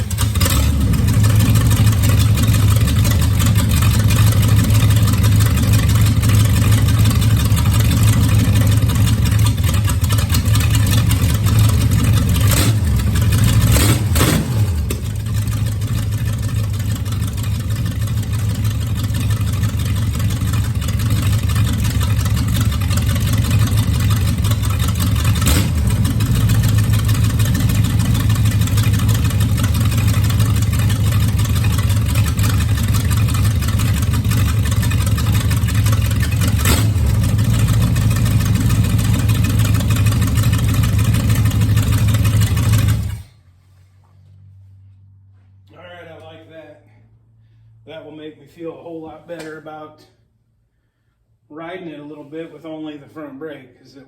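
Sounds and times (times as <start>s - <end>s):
engine idling: 0.0s - 43.7s.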